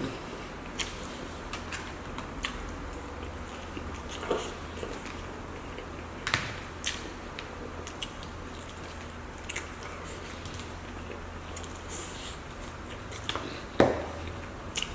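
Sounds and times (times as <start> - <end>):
chewing with wet mouth smacks: 0.0 - 6.2, 6.8 - 14.9
low steady hum: 0.0 - 14.9.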